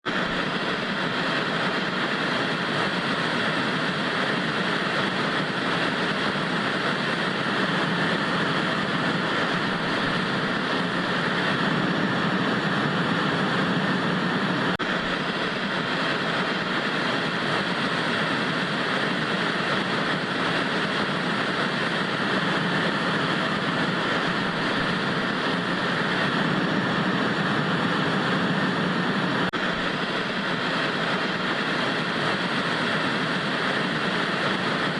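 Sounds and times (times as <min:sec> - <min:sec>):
tv static hiss: 0:00.1 - 0:34.9.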